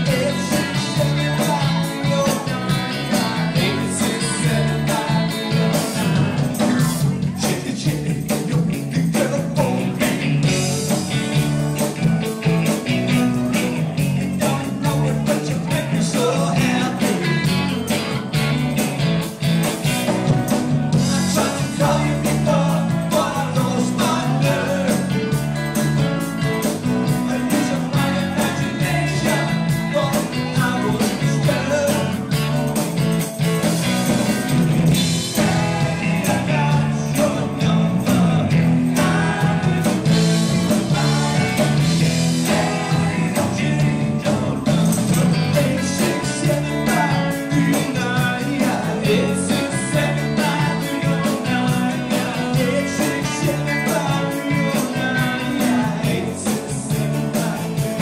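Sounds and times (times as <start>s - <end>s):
person singing lead vocal: 0.0s - 12.0s, 12.6s - 18.5s, 20.1s - 32.8s, 35.0s - 58.0s
drums: 0.0s - 58.0s
keyboards: 0.0s - 58.0s
overdriven electric guitars: 0.0s - 58.0s.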